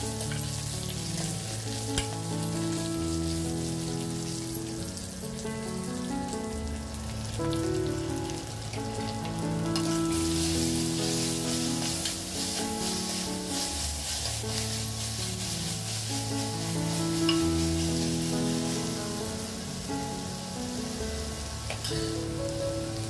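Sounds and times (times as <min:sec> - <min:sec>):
food sizzling in hot oil: 0:00.0 - 0:23.0
soft background music: 0:00.0 - 0:23.0.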